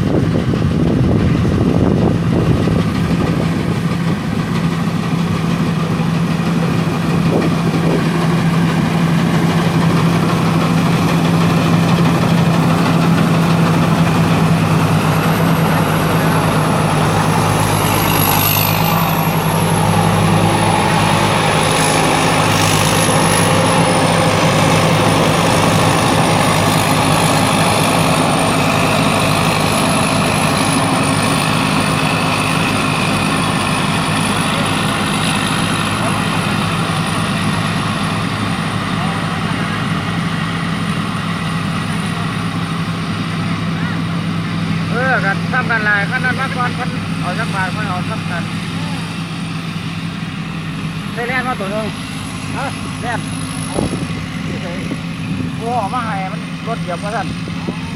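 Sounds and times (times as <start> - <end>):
diesel engine hum: 0.0 - 57.9.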